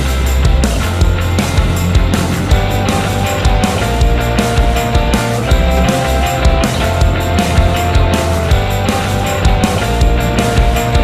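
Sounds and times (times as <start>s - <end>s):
rock music with heavy bass: 0.0s - 11.0s.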